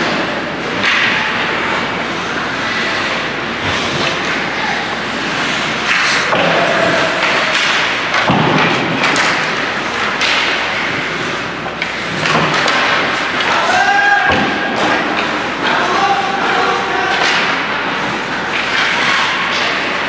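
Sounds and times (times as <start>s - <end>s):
puck and players hitting boards: 0.0s - 20.0s.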